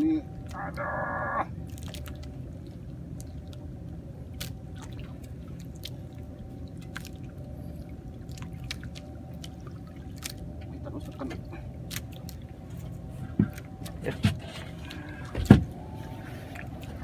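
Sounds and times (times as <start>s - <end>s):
boat engine rumble: 0.0s - 17.0s
water lapping: 0.0s - 17.0s.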